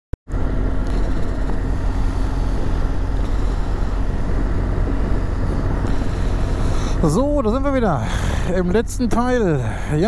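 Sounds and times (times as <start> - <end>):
motorcycle engine running: 0.3 - 10.0.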